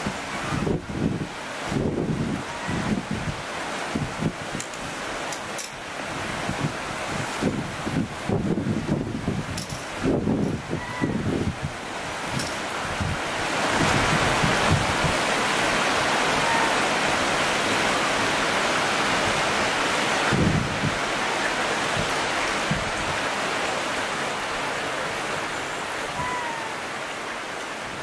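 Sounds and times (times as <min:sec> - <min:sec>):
flowing water rushing: 0:00.0 - 0:28.0.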